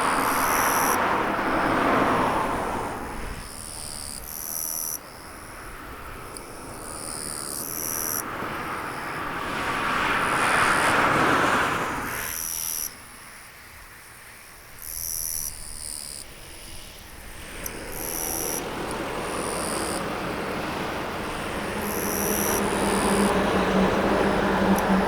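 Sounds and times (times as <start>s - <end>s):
insects calling: 0.0s - 25.0s.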